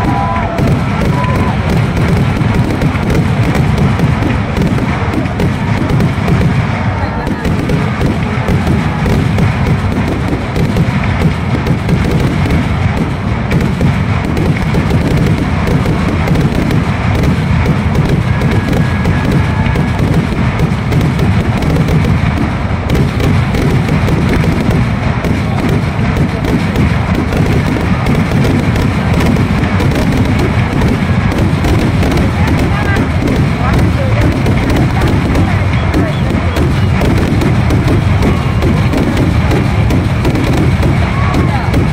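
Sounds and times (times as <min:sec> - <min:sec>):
barrage of firework explosions: 0:00.0 - 0:41.9.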